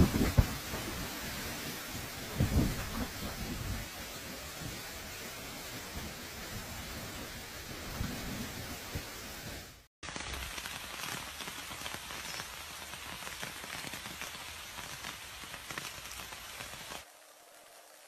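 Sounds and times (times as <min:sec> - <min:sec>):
rain pattering on leaves: 0:00.0 - 0:18.0.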